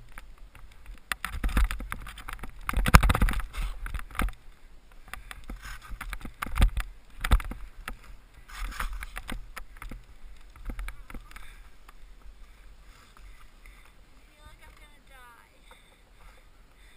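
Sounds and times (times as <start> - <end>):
skis running through snow: 3.2 - 16.9.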